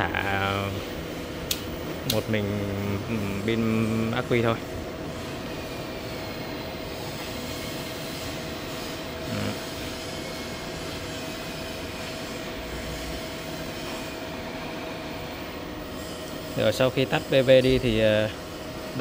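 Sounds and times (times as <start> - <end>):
inverter cooling fans whirring: 0.0 - 19.0.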